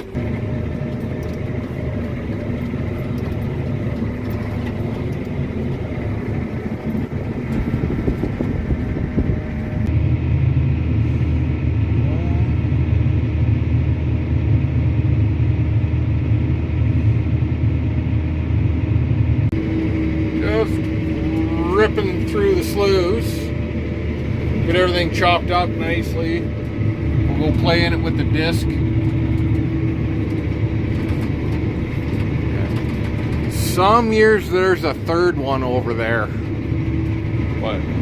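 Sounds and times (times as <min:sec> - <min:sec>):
deep engine rumble: 0:00.0 - 0:38.0
diesel engine drone: 0:00.0 - 0:38.0.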